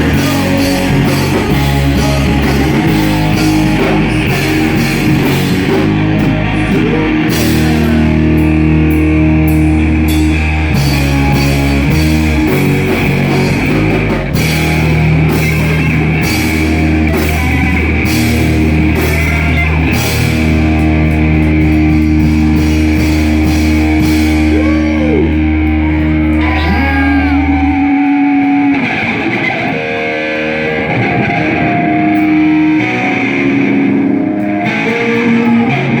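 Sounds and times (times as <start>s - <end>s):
bass guitar: 0.0s - 36.0s
drum kit: 0.0s - 36.0s
electric guitar: 0.0s - 36.0s.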